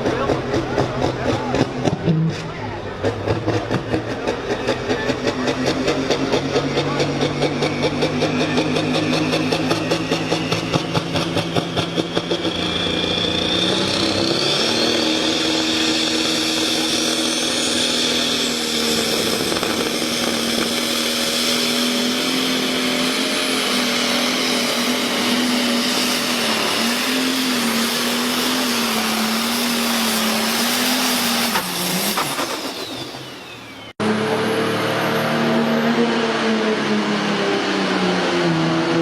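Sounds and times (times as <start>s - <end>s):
another engine running: 0.0s - 39.0s
tractor engine running hard: 0.0s - 39.0s.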